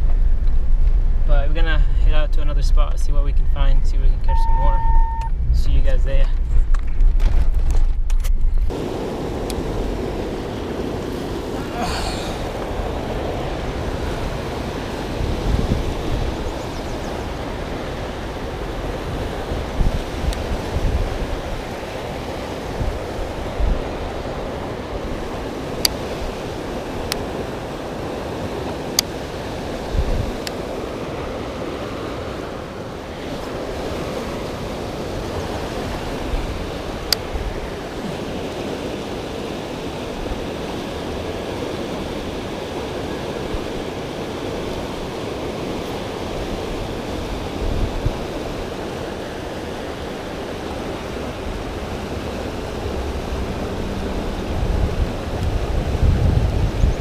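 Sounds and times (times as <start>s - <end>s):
wind bumps on microphone: 0.0s - 11.6s, 12.3s - 32.4s, 39.8s - 57.0s
river water rushing: 8.7s - 56.9s.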